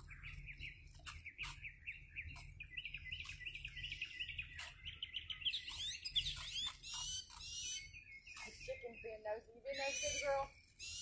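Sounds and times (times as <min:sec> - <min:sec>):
bird chirping rapid notes: 0:00.0 - 0:11.0.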